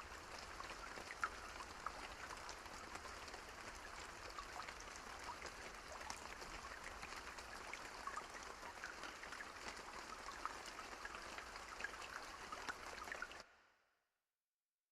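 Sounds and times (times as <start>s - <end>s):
rain drops pattering: 0.0s - 13.4s.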